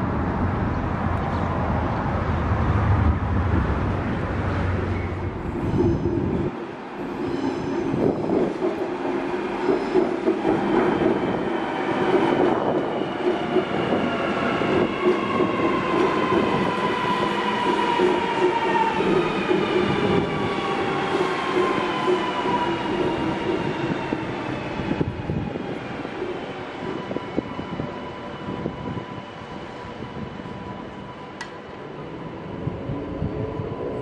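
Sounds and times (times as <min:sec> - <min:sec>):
electric train rumbling: 0:00.0 - 0:34.0.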